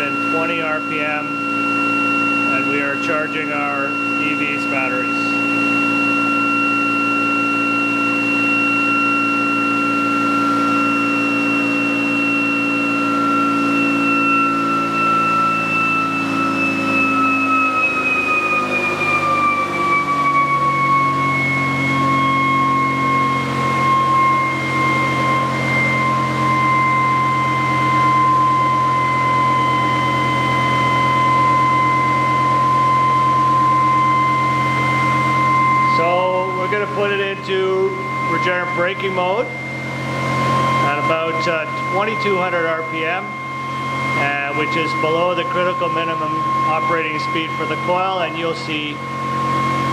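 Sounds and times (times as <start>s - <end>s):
generator high-pitched whine: 0.0s - 49.9s.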